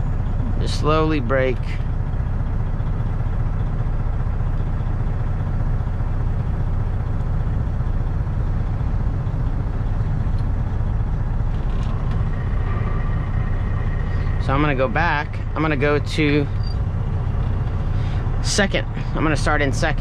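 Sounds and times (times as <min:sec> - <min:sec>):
truck diesel engine drone: 0:00.0 - 0:20.0.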